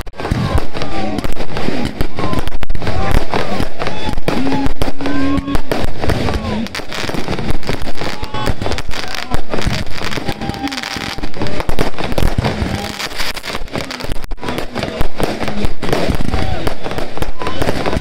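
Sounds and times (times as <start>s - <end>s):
firework shells bursting: 0.0s - 18.0s.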